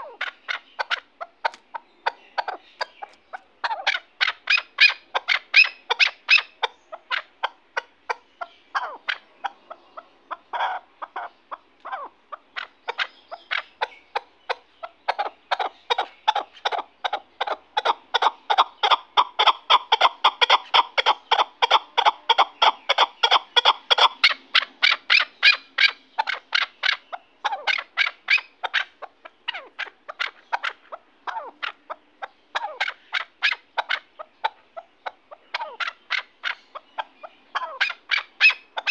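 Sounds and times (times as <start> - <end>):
partridge clucking calls: 0.0 - 38.9.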